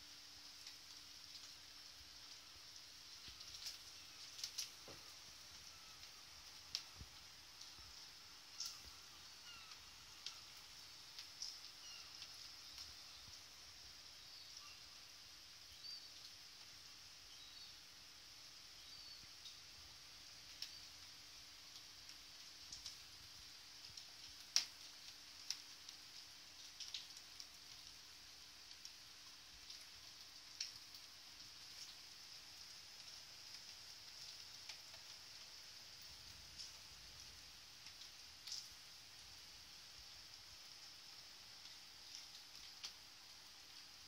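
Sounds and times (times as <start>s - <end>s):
raindrops ticking on window: 0.0s - 17.9s, 18.5s - 44.0s
faint rain hiss: 0.0s - 44.0s.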